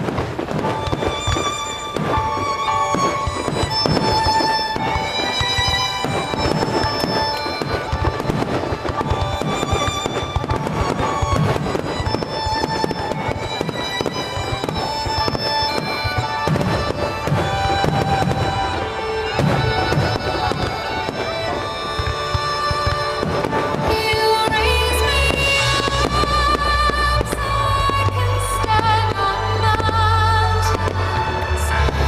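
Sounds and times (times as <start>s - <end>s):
fireworks bangs and crackles: 0.0s - 32.0s
music with long held notes: 0.0s - 32.0s.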